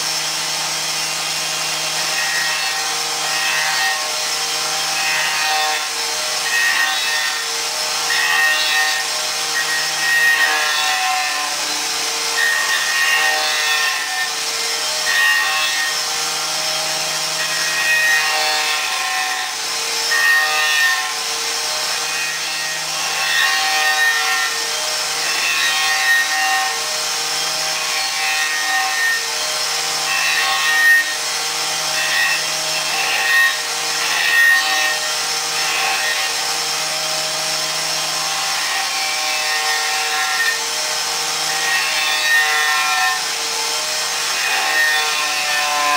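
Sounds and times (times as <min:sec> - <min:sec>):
rotary cutter whine: 0:00.0 - 0:45.9
wood rasping under cutter: 0:00.0 - 0:45.9.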